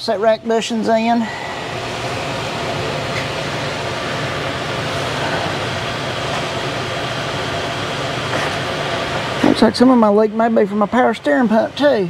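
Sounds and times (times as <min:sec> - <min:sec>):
droning fan hum: 0:00.0 - 0:12.0.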